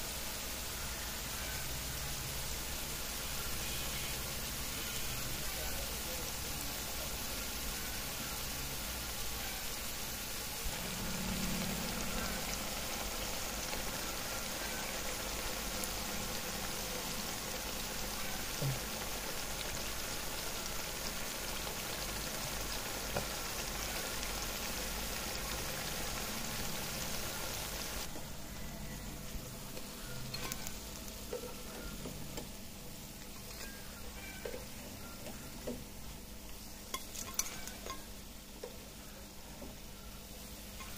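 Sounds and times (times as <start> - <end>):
food deep-frying in oil: 0.0 - 40.9.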